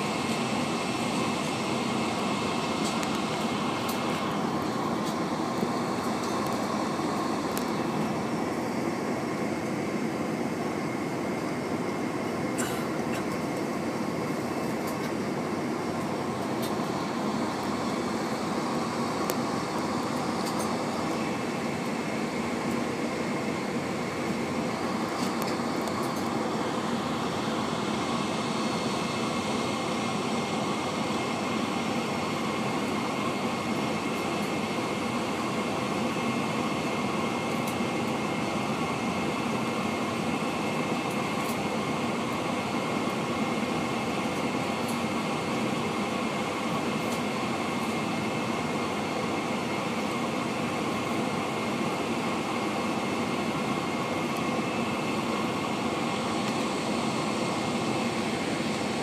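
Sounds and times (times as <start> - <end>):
airplane cabin engine hum: 0.0 - 59.0
faint steady whine: 0.0 - 59.0.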